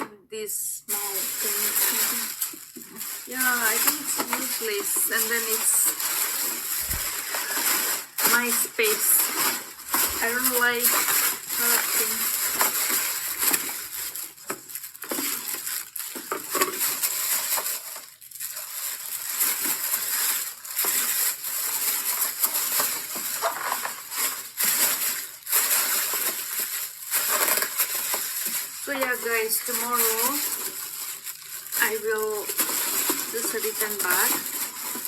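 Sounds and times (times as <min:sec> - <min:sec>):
packaging crinkling and rustling: 0:00.9 - 0:35.0.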